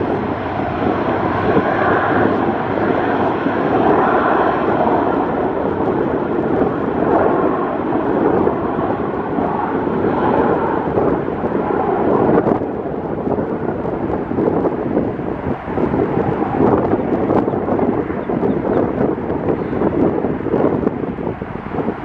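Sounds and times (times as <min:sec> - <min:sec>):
airplane engines rushing: 0:00.0 - 0:22.0
wind buffeting microphone: 0:00.0 - 0:22.0.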